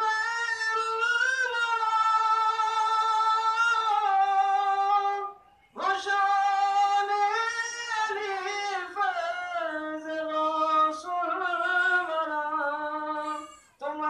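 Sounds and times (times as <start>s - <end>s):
person singing unaccompanied: 0.0s - 14.0s.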